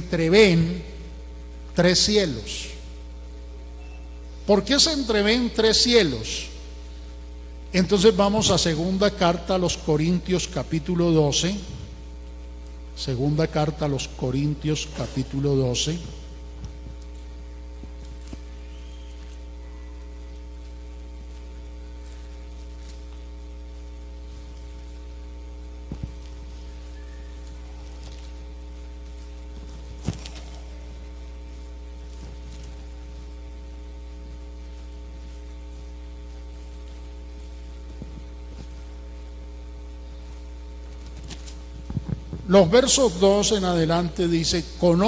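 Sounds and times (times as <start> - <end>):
electrical mains hum: 0.0 - 45.0.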